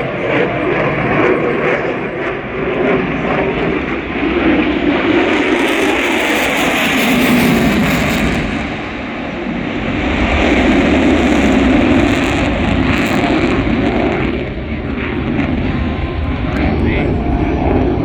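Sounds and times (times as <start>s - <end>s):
airplane engine noise: 0.0s - 18.0s.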